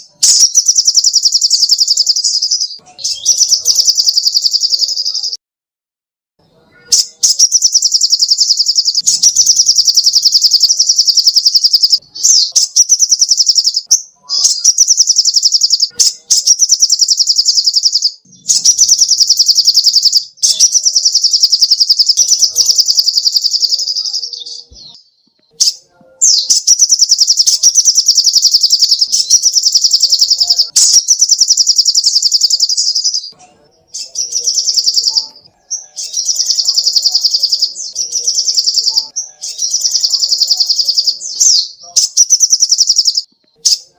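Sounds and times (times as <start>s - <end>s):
songbird trilling: 0.0s - 5.4s, 6.9s - 43.9s.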